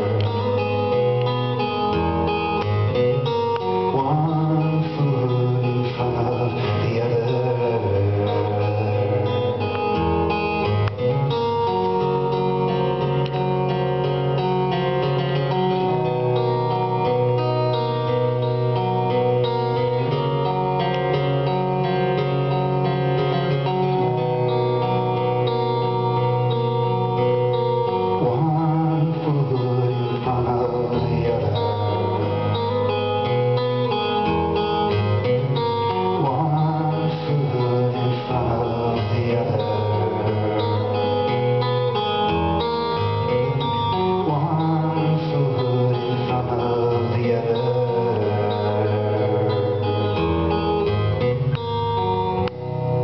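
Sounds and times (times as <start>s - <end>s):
acoustic guitar chords: 0.0s - 53.0s.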